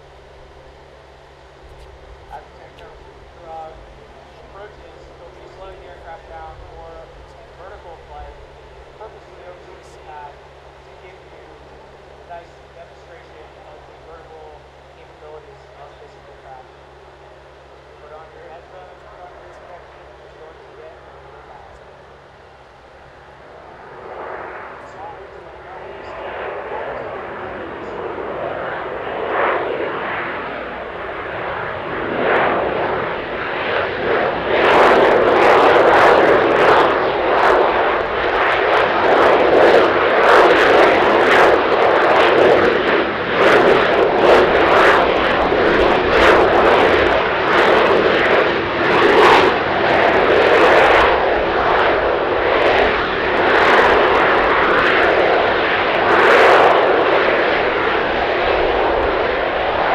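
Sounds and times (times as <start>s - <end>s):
wavering jet engine roar: 0.0s - 59.9s.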